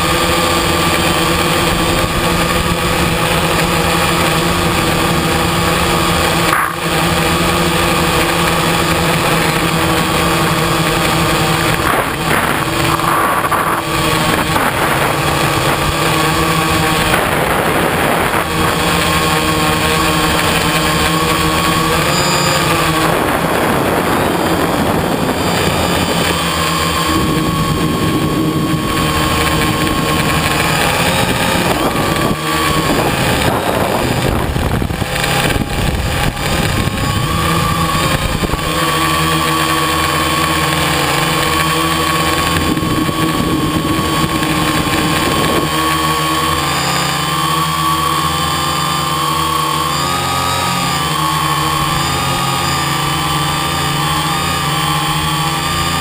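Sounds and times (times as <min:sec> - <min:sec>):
wind rushing over microphone: 0:00.0 - 0:49.6
model aircraft motor running: 0:00.0 - 0:56.0.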